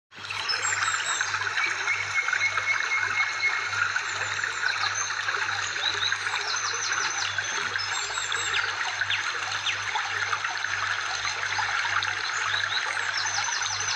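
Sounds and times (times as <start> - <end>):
babbling water: 0.1 - 13.9.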